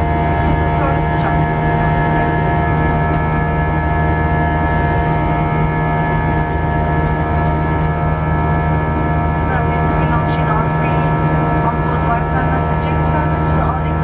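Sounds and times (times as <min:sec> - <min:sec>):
jet engines droning in cabin: 0:00.0 - 0:14.0
steady whining tones: 0:00.0 - 0:14.0.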